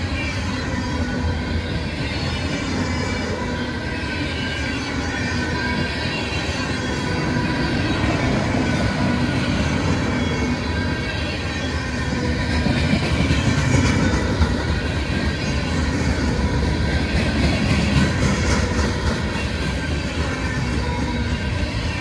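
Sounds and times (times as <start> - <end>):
train wheels rumbling on rails: 0.0 - 22.0
wheels squealing: 0.0 - 22.0.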